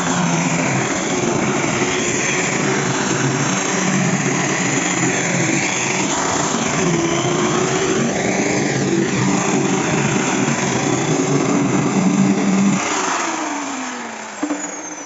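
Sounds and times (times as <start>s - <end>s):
power grinder on wood: 0.0s - 15.0s.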